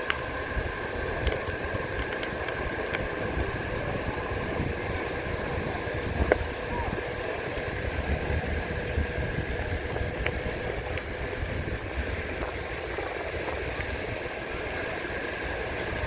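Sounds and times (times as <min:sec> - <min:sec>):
faint steady whine: 0:00.0 - 0:16.0
wind buffeting microphone: 0:00.0 - 0:16.0.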